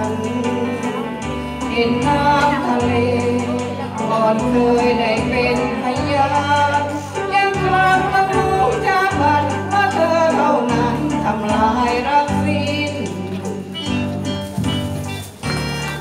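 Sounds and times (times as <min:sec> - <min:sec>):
woman singing into a microphone: 0:00.0 - 0:14.3
karaoke backing track: 0:00.0 - 0:16.0.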